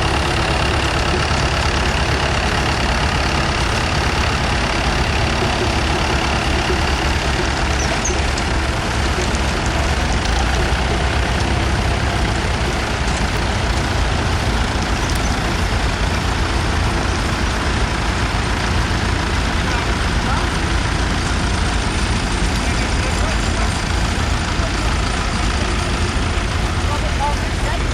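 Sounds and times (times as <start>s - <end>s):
tractor engine rumbling: 0.0s - 27.9s.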